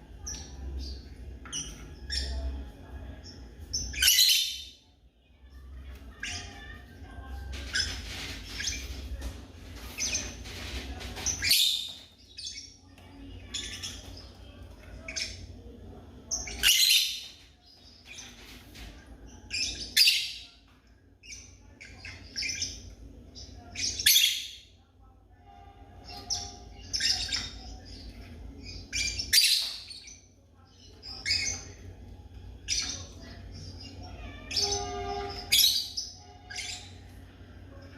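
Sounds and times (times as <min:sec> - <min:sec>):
lovebirds chirping: 0:00.1 - 0:04.8, 0:05.4 - 0:24.8, 0:26.0 - 0:37.9.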